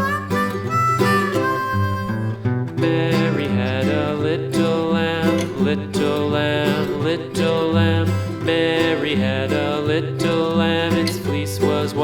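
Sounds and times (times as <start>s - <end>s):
harmonica melody: 0.0s - 11.9s
plucked acoustic guitar: 0.0s - 12.0s.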